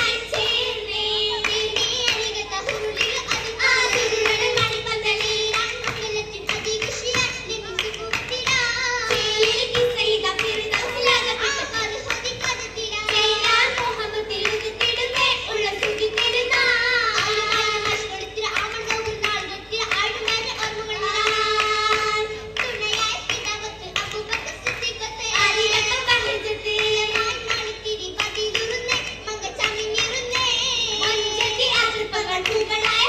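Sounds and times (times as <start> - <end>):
group of girls singing: 0.0 - 33.0
rhythmic hand-clapping: 0.0 - 33.0.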